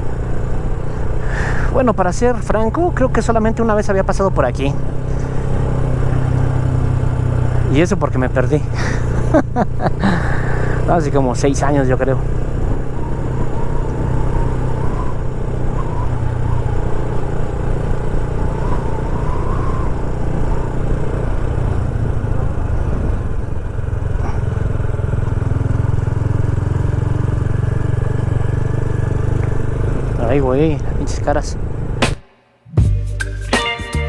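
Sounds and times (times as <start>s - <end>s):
motorcycle engine running: 0.0s - 32.2s.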